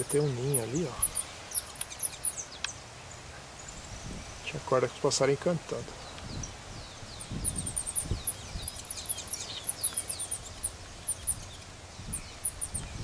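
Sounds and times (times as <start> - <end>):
small birds chirping: 0.0 - 13.0
steady outdoor hiss: 0.0 - 13.0.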